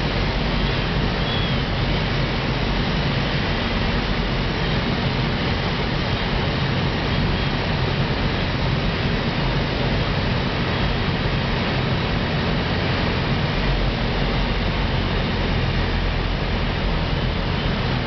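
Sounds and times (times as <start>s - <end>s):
light aircraft engine drone: 0.0s - 18.0s.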